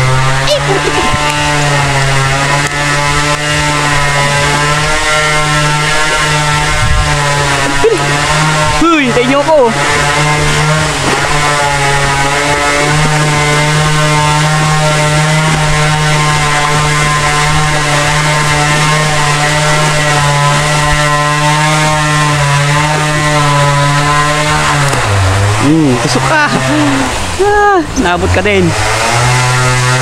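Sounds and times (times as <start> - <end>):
loud buzzy machine drone: 0.0 - 30.0.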